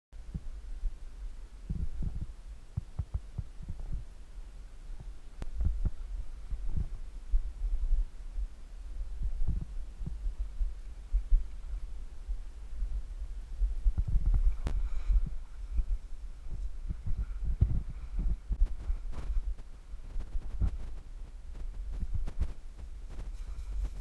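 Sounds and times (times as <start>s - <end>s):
wind on camera microphone: 0.2s - 24.0s.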